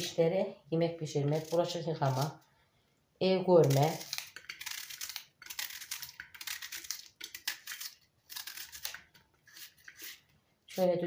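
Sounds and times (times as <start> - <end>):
knife cutting raw onion: 1.0 - 2.4, 3.5 - 11.0.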